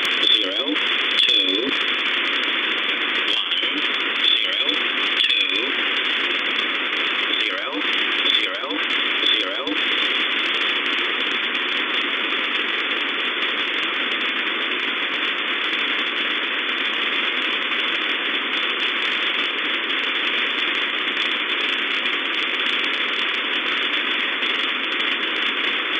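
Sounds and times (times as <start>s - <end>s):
shortwave radio static hiss: 0.0s - 25.9s.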